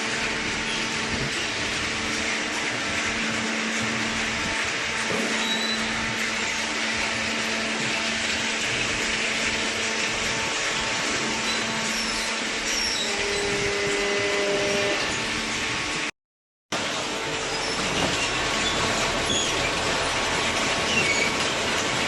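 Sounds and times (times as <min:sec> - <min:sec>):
hydraulic motor and pump hum: 0:00.0 - 0:16.1, 0:16.8 - 0:22.0.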